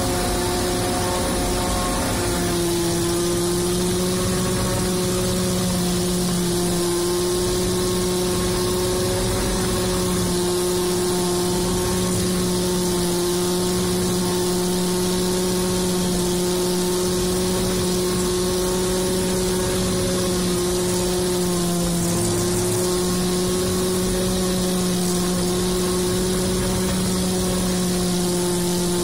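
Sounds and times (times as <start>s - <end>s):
forage harvester drone: 0.0s - 29.0s.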